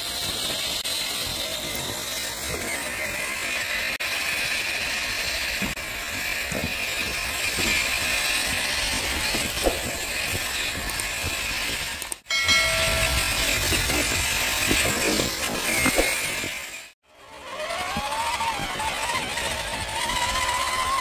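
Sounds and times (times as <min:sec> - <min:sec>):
toy truck motor whirring: 0:00.0 - 0:21.0.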